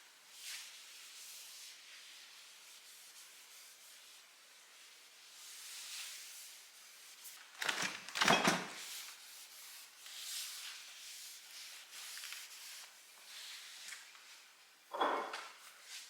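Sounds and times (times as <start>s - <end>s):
cloth wiping a surface: 0.0s - 7.4s, 8.8s - 14.8s, 15.6s - 16.0s.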